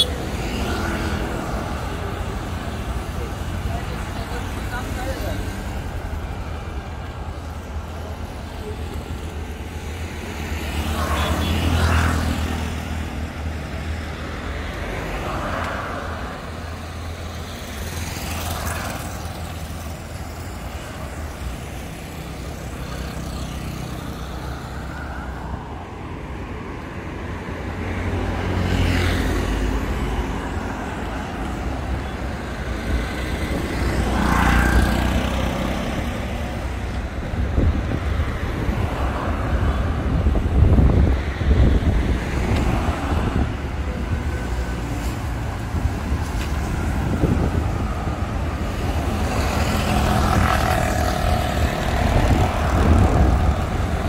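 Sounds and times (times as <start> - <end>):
traffic engine rumble: 0.0 - 54.0
vehicles passing close by: 0.0 - 54.0.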